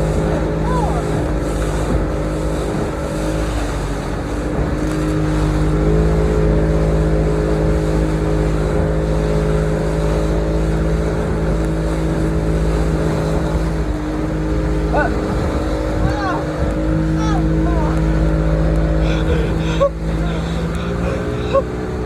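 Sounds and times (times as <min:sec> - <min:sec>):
motorboat engine rumbling: 0:00.0 - 0:22.0.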